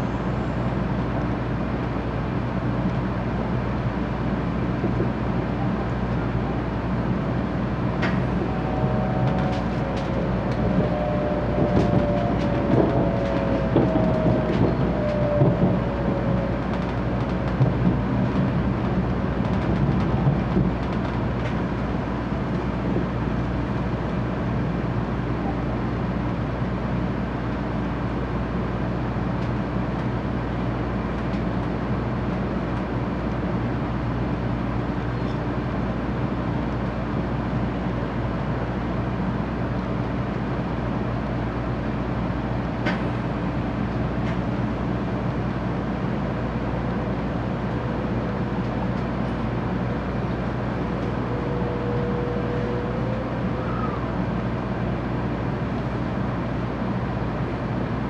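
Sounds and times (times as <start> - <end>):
train rumble and hum: 0.0 - 58.0.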